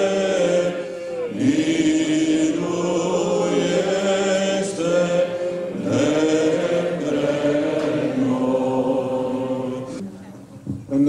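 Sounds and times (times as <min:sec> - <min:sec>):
choir chanting: 0:00.0 - 0:10.1.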